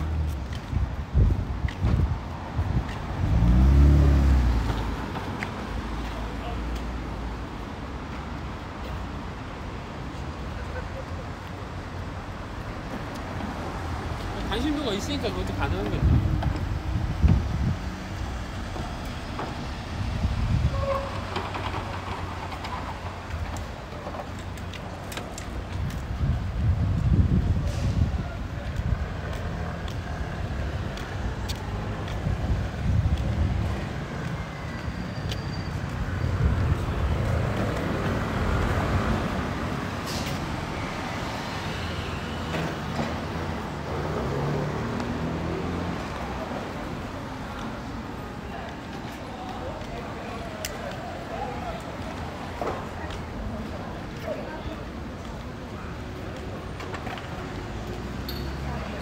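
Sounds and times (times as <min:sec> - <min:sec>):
cars passing at low speed: 0:00.0 - 0:10.6, 0:11.4 - 0:59.0.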